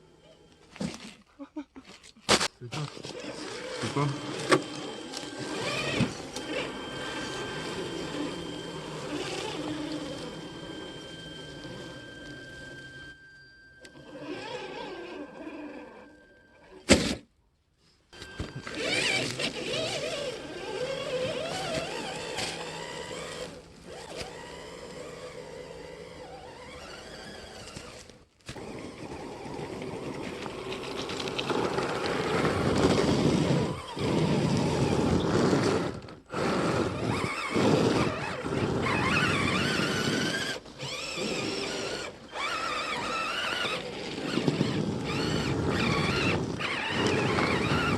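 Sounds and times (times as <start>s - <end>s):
electric motor whine: 0.0s - 1.2s, 2.8s - 17.2s, 18.1s - 47.9s
running gear noise: 2.7s - 16.2s, 18.2s - 47.9s.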